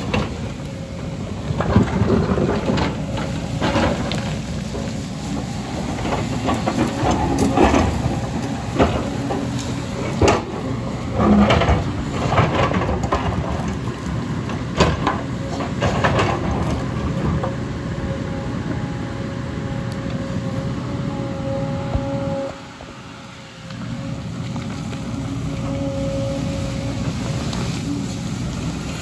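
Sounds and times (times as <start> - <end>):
excavator diesel engine: 0.0 - 29.0.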